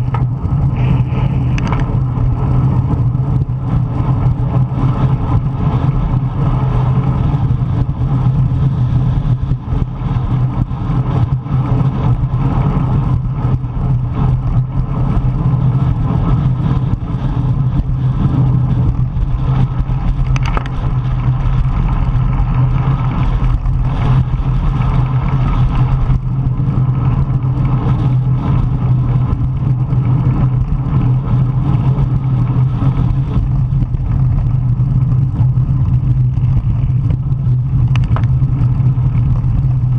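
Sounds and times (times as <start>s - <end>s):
constant low hum: 0.0s - 39.9s
wind buffeting microphone: 0.0s - 39.9s.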